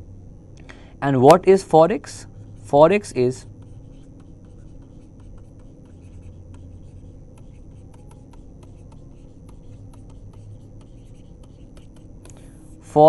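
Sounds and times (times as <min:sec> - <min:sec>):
steady low hum: 0:00.0 - 0:13.0
stylus scratching on a pen tablet: 0:02.1 - 0:13.0.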